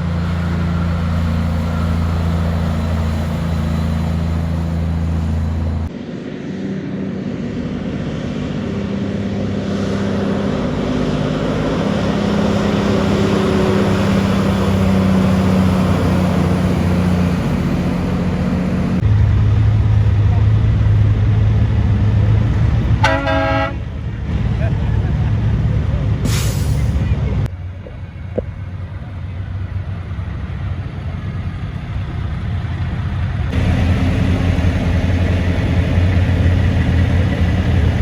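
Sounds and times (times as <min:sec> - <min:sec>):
diesel truck engine running: 0:00.0 - 0:05.9, 0:10.5 - 0:38.0.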